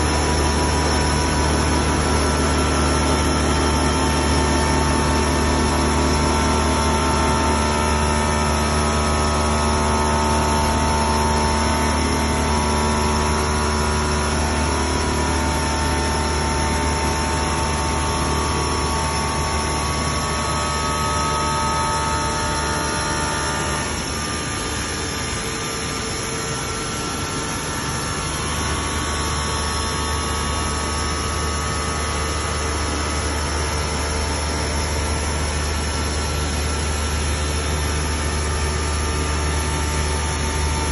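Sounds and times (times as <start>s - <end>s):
machine spindle motor humming: 0.0s - 40.9s.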